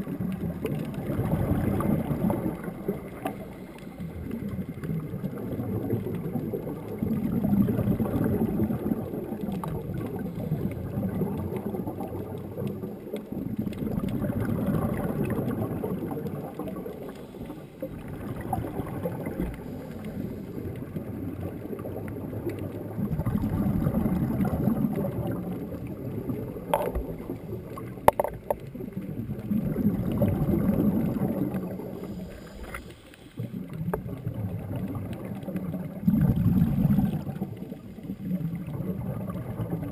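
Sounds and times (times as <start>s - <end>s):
underwater regulator bubbles rushing: 0.0s - 39.9s.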